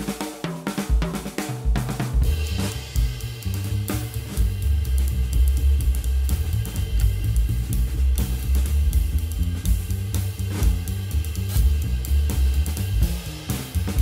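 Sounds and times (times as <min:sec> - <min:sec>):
drum kit beat: 0:00.0 - 0:14.0
sustained bass line: 0:02.2 - 0:14.0.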